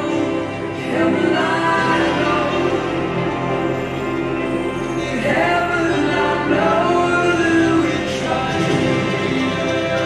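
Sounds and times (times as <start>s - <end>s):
music with sustained chords: 0.0s - 10.0s.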